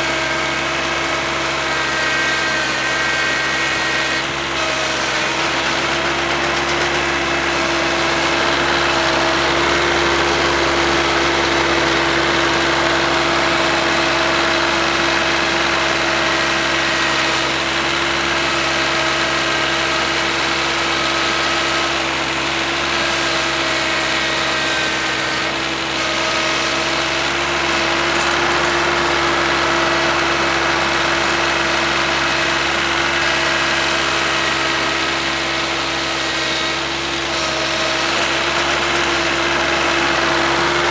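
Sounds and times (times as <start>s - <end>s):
diesel tractor engine running: 0.0s - 40.9s
snowblower throwing snow: 0.0s - 40.9s.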